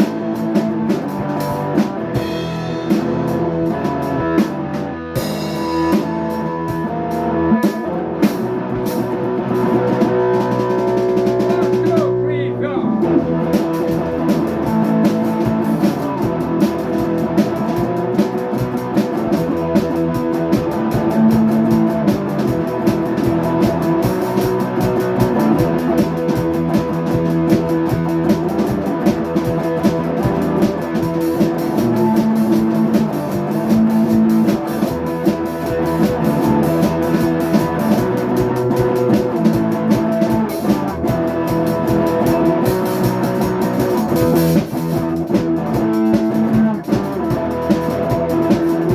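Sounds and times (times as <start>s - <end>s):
rock music with guitar and drums: 0.0s - 48.9s.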